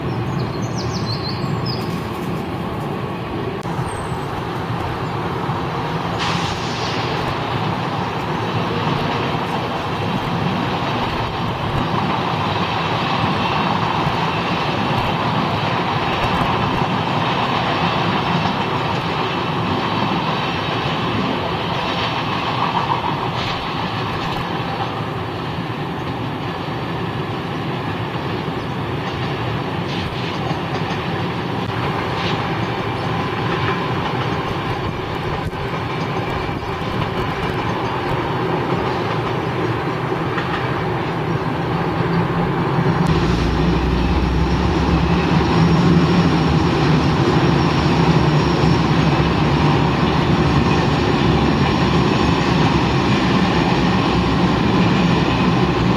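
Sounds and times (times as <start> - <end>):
deep steady locomotive hum: 0.0 - 55.9
train wheels on rails: 0.0 - 55.9.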